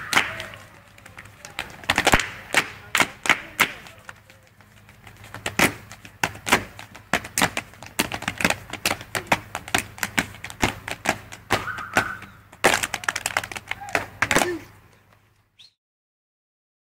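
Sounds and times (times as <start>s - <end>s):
hand claps: 0.0s - 14.6s.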